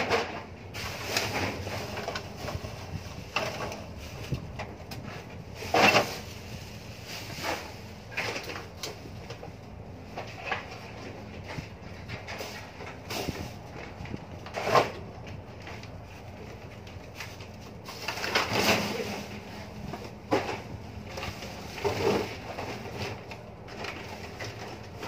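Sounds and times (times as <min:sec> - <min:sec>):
garbage bags knocking and rustling: 0:00.0 - 0:25.0
low hum of ship machinery: 0:00.0 - 0:25.0.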